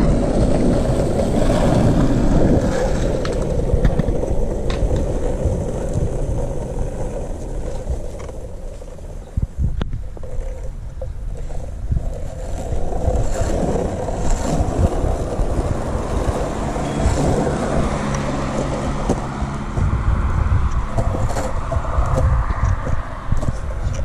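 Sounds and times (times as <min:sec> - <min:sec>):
skateboard wheels rolling on asphalt: 0:00.0 - 0:24.0.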